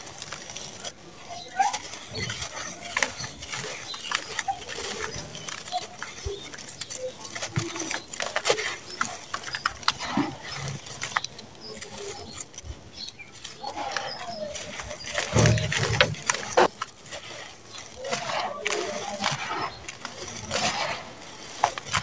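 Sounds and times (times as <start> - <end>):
sand-cement clumps crunching by hand: 0.0 - 22.0.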